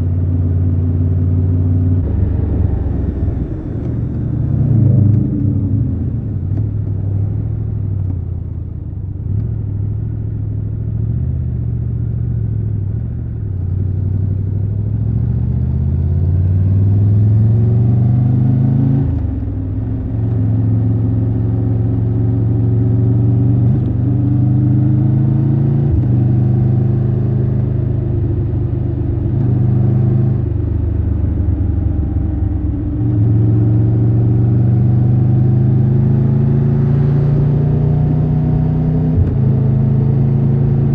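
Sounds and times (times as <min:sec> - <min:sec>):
motorcycle engine accelerating: 0:00.7 - 0:10.2, 0:10.8 - 0:40.9.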